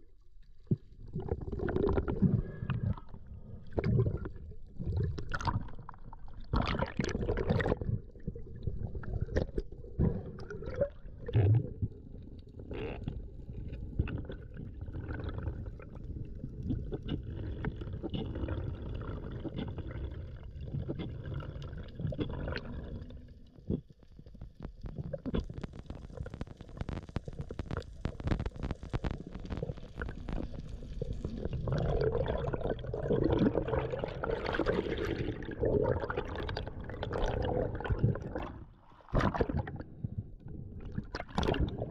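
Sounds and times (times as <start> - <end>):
underwater water gurgling: 0.0 - 41.9.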